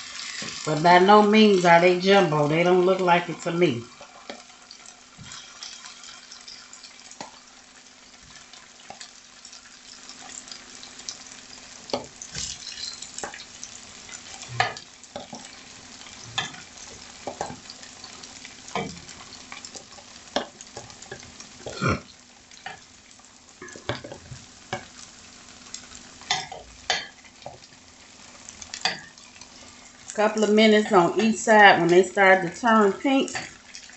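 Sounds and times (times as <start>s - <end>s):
shrimp sizzling in oil: 0.0s - 33.9s.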